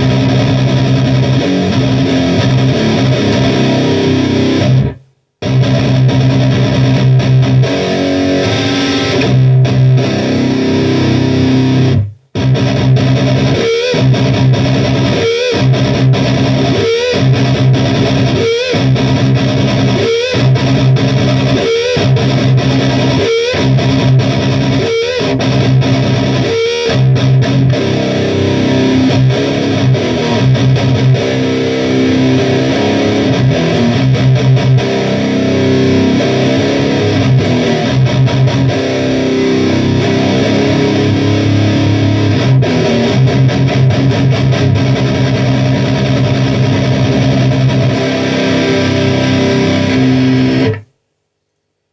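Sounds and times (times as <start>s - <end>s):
distorted electric guitar: 0.0s - 51.0s.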